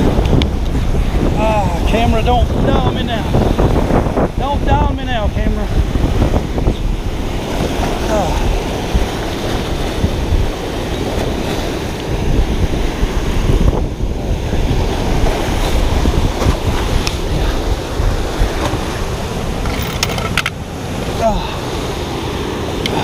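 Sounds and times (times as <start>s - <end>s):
water rushing from dam: 0.0s - 23.0s
wind buffeting microphone: 0.0s - 23.0s.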